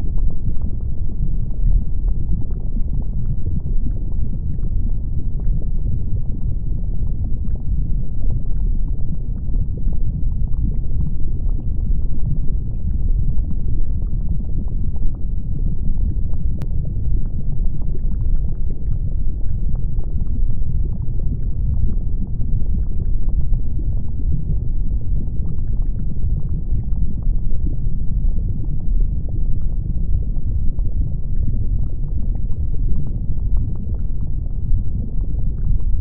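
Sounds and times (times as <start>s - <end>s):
lava rumbling: 0.0s - 36.0s.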